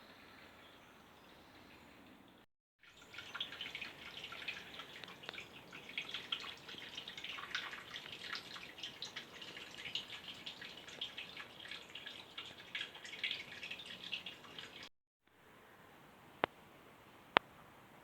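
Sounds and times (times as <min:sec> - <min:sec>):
water trickling and dripping: 0:00.0 - 0:14.9
faint outdoor background: 0:00.0 - 0:18.0.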